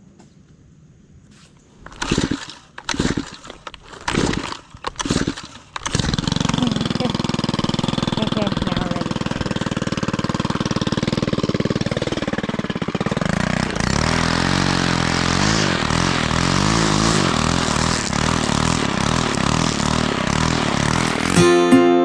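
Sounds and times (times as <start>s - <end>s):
lawn mower engine running: 1.6s - 22.0s.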